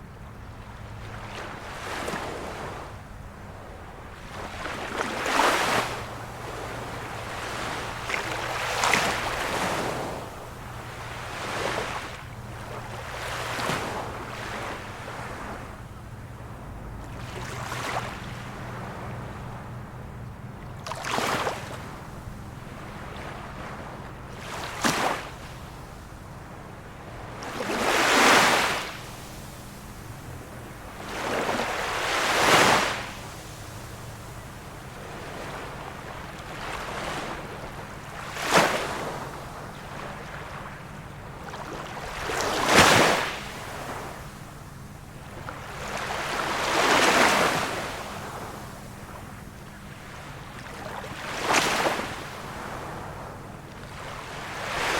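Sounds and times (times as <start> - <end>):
small waves breaking on shore: 0.0 - 54.9.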